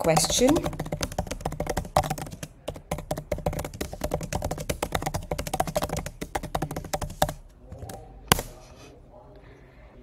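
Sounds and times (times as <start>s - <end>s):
fast typing on keyboard: 0.0s - 8.5s.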